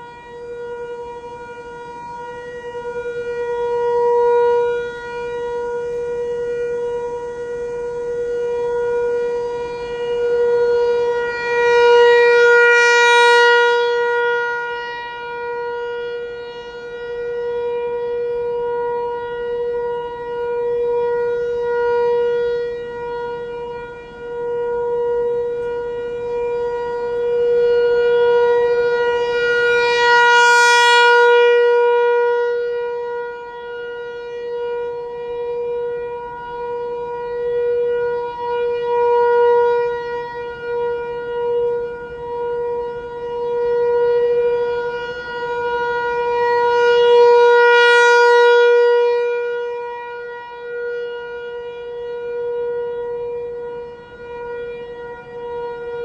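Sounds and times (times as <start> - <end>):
rotating siren steady tone: 0.0 - 56.0.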